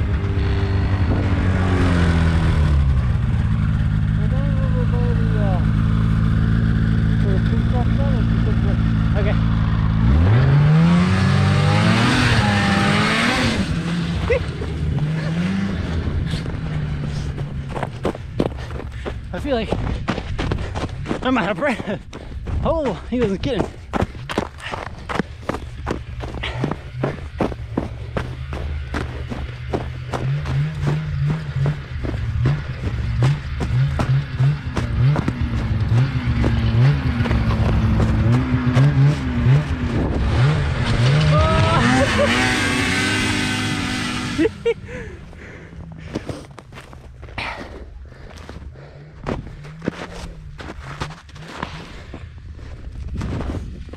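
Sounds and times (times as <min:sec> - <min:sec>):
engine revving: 0:00.0 - 0:19.5, 0:22.7 - 0:46.4.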